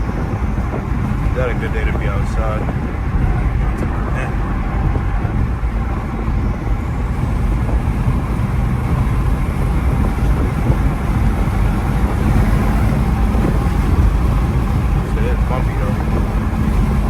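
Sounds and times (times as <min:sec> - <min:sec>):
car engine cruising: 0:00.0 - 0:17.0
road and tyre noise: 0:00.0 - 0:17.0.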